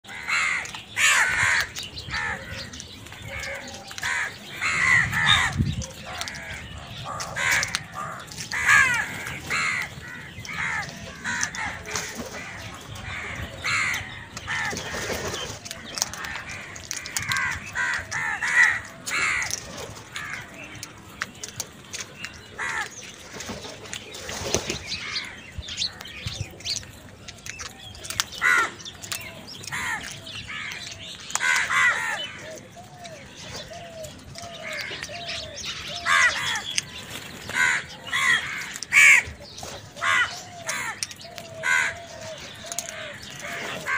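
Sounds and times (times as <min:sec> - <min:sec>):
crows cawing: 0:00.1 - 0:14.9, 0:15.6 - 0:20.7, 0:22.3 - 0:23.1, 0:28.3 - 0:43.9.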